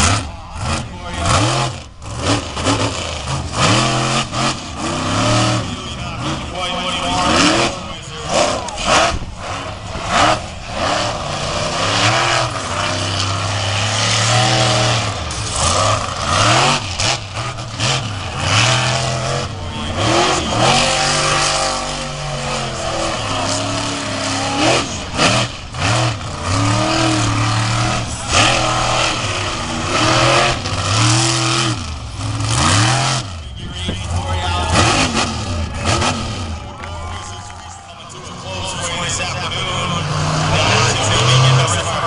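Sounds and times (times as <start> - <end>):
monster truck engine revving: 0.0 - 42.0.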